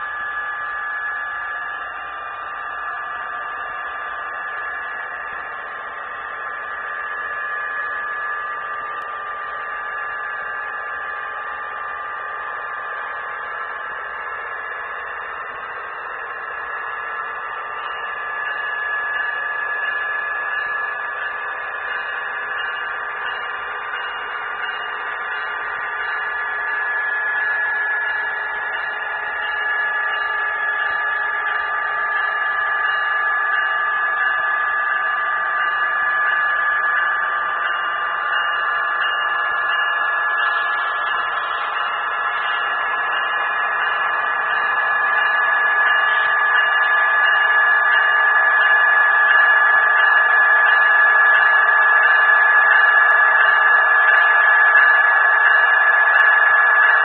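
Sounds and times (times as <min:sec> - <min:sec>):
electrical hum and whine: 0:00.0 - 0:57.0.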